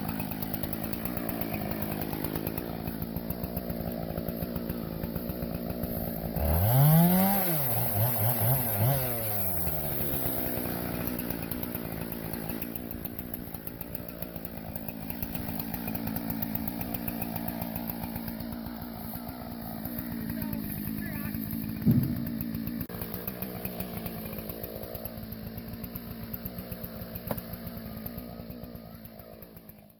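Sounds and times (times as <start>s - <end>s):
chainsaw idling and revving: 0.0s - 29.9s.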